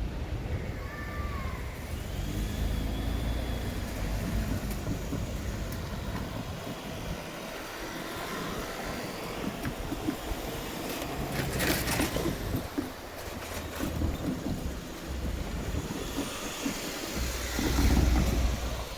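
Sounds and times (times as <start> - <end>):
low rumble of passing traffic: 0.0 - 18.9.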